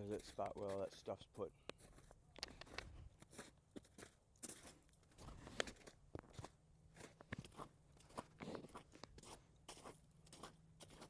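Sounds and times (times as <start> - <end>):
footsteps crunching on snow: 0.0 - 11.0.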